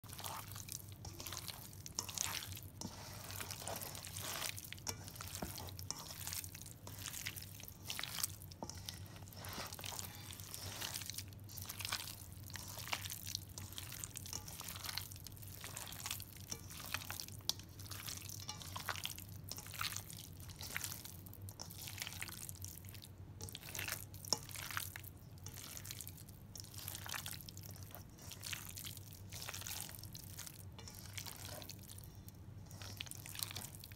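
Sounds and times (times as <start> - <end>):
wet squelching of kneaded meat: 0.0 - 33.9.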